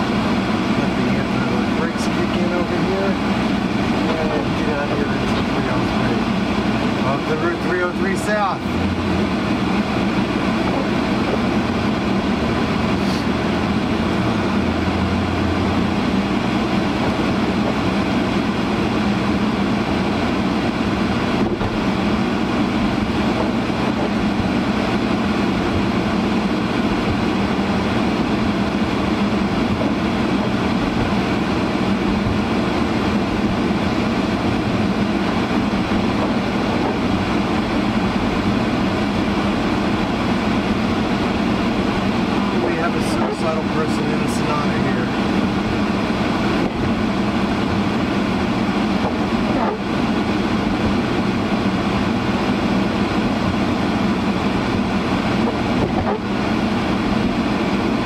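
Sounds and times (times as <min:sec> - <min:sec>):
car engine: 0:00.0 - 0:58.0
defroster fan blowing: 0:00.0 - 0:58.0
road noise: 0:00.0 - 0:58.0.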